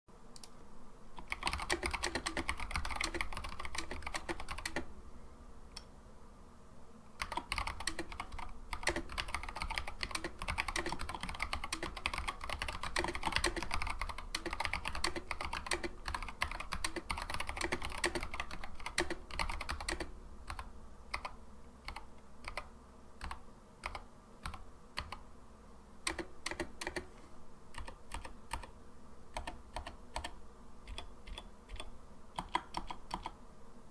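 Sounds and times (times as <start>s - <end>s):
typing on mechanical keyboard: 1.2s - 4.9s, 7.2s - 25.2s, 26.1s - 27.1s, 27.7s - 28.7s, 29.4s - 33.4s.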